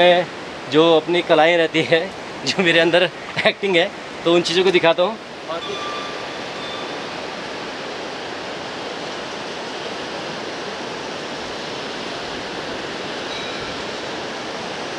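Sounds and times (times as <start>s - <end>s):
river rushing: 0.0s - 14.9s.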